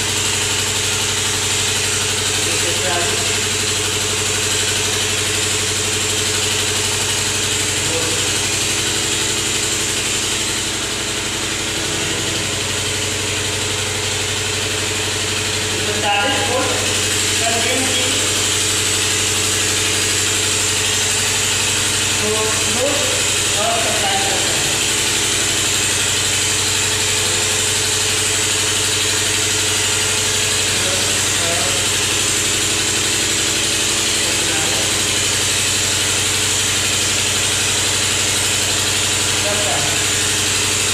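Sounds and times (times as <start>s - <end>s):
low mechanical drone with hiss: 0.0s - 40.9s
steady low hum: 0.0s - 40.9s.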